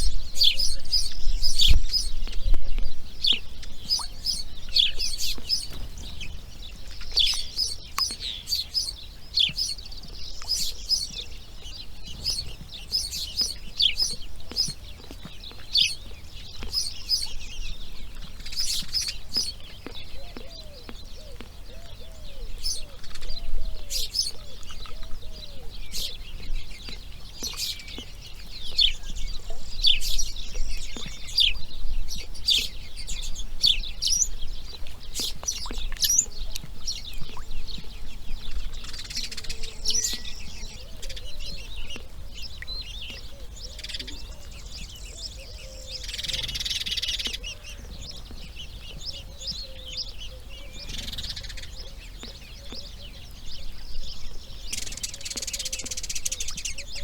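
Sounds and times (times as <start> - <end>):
wild birds chirping and singing: 0.0 - 57.0.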